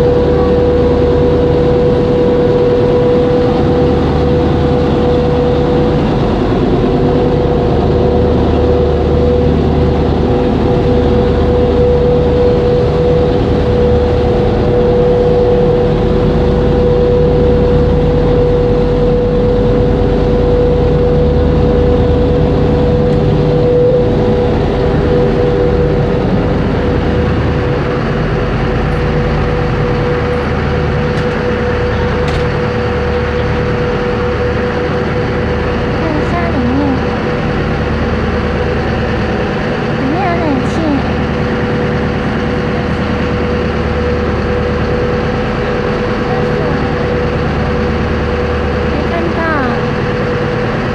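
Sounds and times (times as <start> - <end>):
boat engine drone: 0.0 - 50.9
high whine: 0.0 - 50.9.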